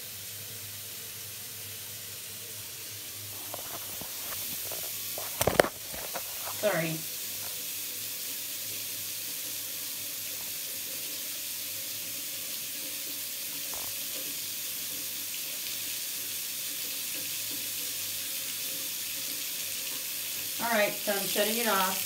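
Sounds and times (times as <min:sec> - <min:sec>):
faucet water pouring into sink: 0:00.0 - 0:22.0.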